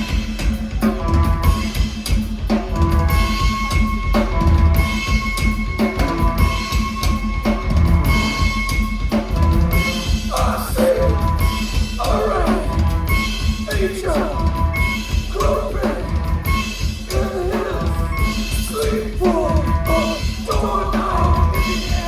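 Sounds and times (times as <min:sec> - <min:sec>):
drum kit driving beat: 0:00.0 - 0:22.0
live band playing loud: 0:00.0 - 0:22.0.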